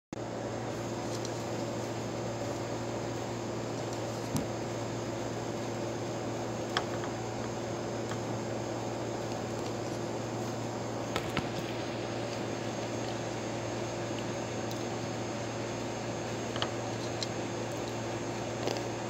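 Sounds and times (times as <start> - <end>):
background hum and hiss: 0.2 - 19.0.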